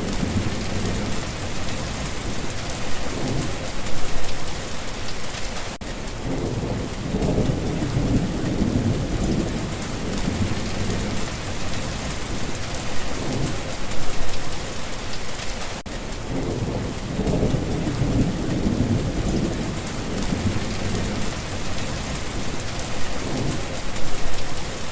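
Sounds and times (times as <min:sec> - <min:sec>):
rolling thunder: 0:00.0 - 0:04.4, 0:06.2 - 0:13.9, 0:16.2 - 0:24.5
steady rain: 0:00.0 - 0:24.9.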